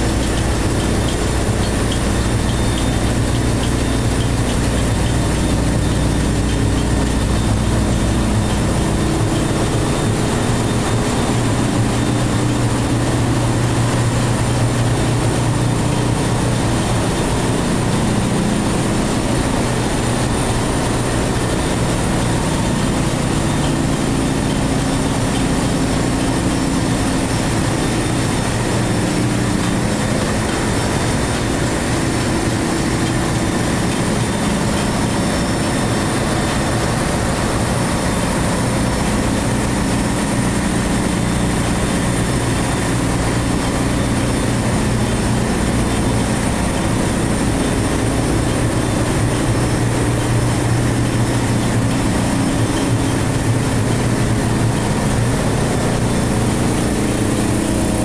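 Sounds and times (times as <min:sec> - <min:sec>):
engine room machinery hum: 0:00.0 - 0:58.0.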